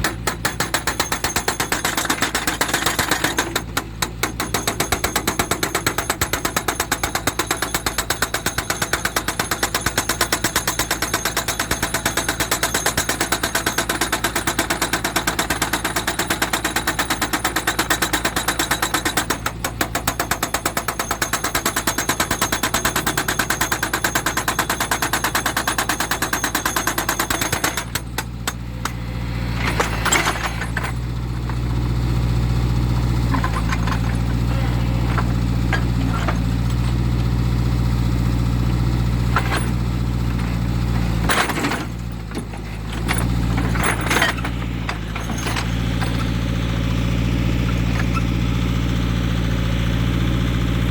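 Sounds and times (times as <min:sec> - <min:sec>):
hydraulic breaker pounding rock: 0:00.0 - 0:48.4
diesel engine running: 0:00.0 - 0:50.9.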